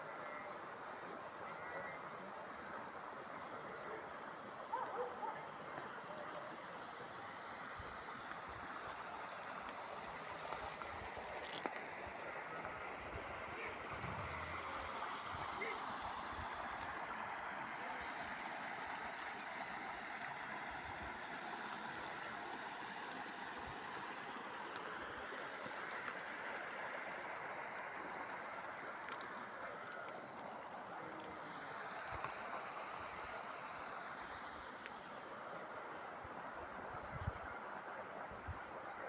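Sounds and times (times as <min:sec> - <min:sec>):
flowing water rushing: 0:00.0 - 0:39.0.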